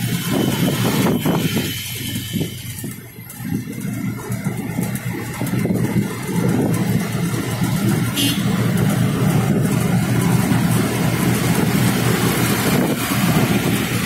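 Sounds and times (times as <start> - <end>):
auto-rickshaw engine running: 0.0 - 14.0
road noise: 0.0 - 14.0.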